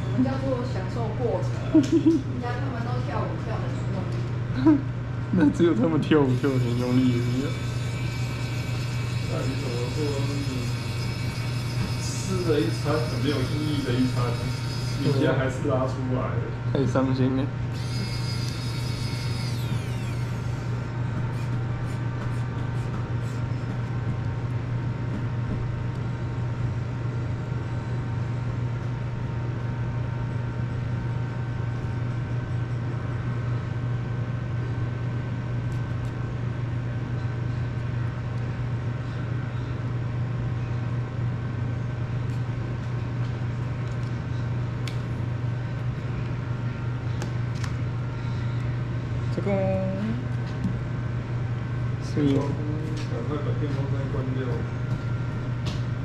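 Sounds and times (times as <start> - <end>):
electric fan whirring: 0.0 - 56.0.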